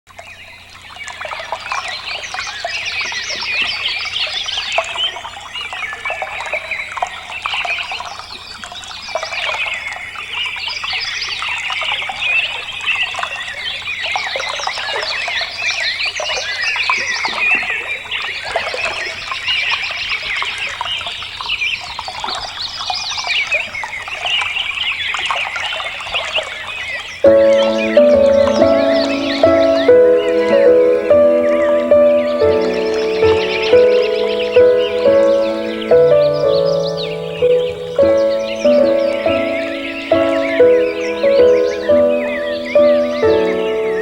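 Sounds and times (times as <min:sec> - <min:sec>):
flock of small birds chirping: 0:00.2 - 0:44.0.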